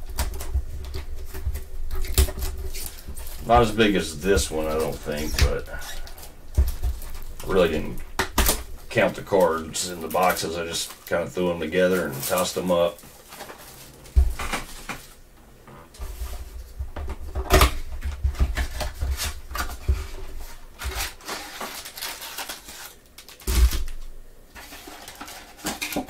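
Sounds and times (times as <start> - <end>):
cardboard rustling and scraping: 0.0 - 26.0.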